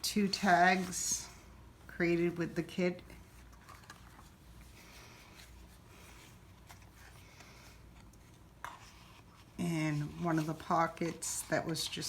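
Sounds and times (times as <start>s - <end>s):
faint paper rustling: 0.0s - 12.0s.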